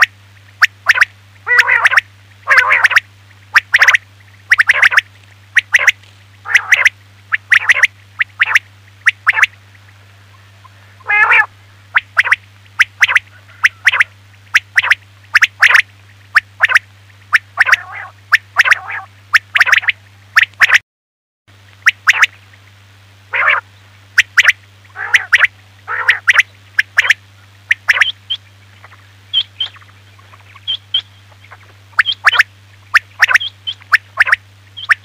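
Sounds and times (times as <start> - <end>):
low electrical hum: 0.0 - 20.8, 21.5 - 35.0
quail calling: 0.0 - 20.8, 21.8 - 22.4, 23.3 - 35.0.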